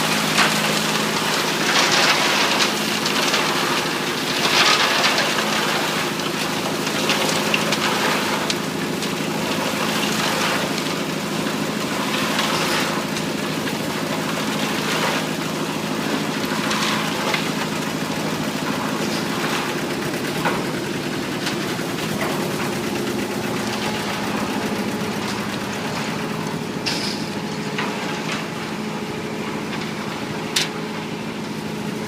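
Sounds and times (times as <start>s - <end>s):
heavy machinery engine running: 0.0s - 32.0s.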